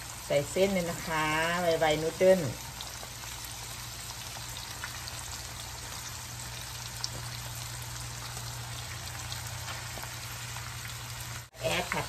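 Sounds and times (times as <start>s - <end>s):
food sizzling in wok: 0.0s - 12.0s.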